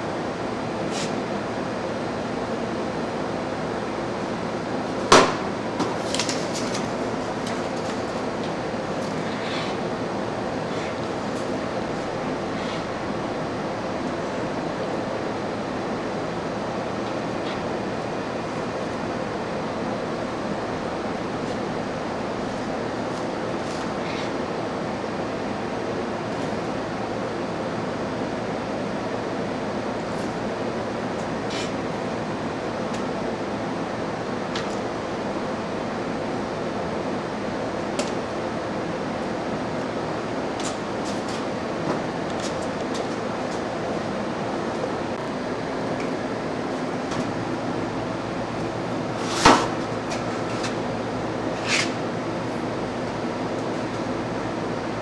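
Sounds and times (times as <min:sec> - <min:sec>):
ventilation and machinery noise: 0:00.0 - 0:55.0.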